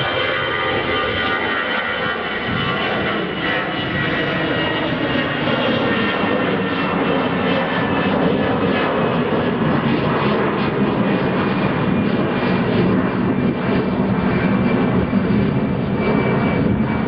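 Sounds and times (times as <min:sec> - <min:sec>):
jet engines roaring overhead: 0:00.0 - 0:17.0.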